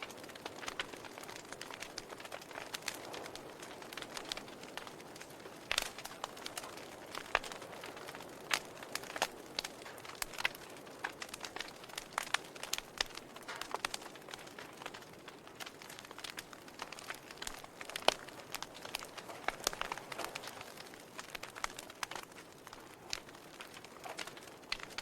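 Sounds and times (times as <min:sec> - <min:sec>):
logs crackling in fireplace: 0:00.0 - 0:25.0.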